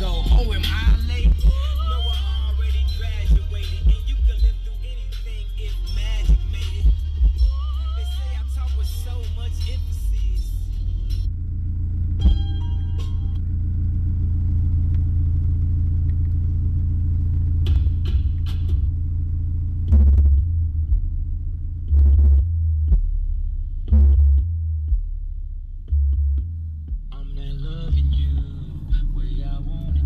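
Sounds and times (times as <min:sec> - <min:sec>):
subwoofer bass rumble: 0:00.0 - 0:30.0.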